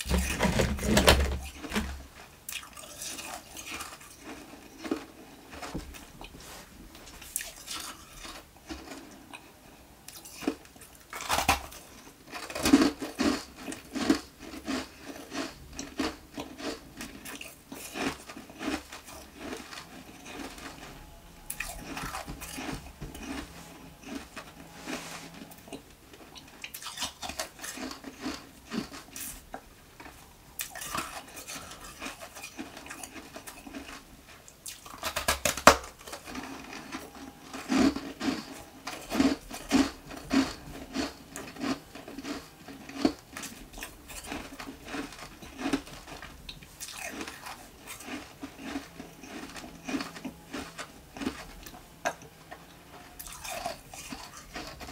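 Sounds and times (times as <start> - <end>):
ice being chewed: 0.0 - 54.9.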